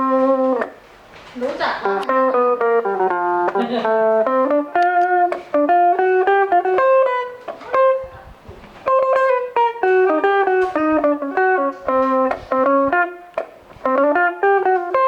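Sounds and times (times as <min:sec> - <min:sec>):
electric guitar picked melody: 0:00.0 - 0:15.0.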